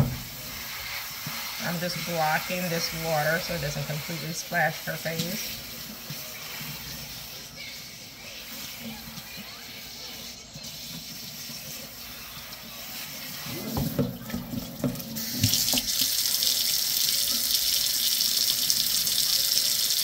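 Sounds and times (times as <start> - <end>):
faucet water into sink: 0.0 - 20.0.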